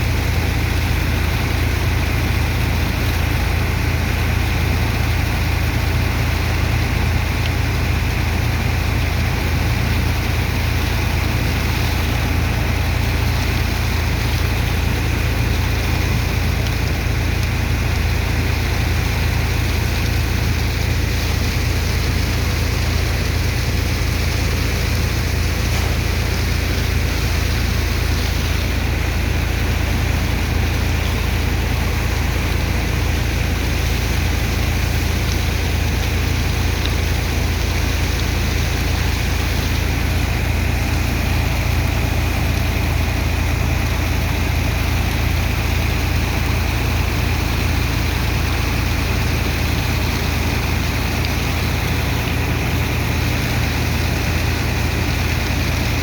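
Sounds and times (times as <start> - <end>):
pump engine low hum: 0.0 - 56.0
rushing water and sand: 0.0 - 56.0.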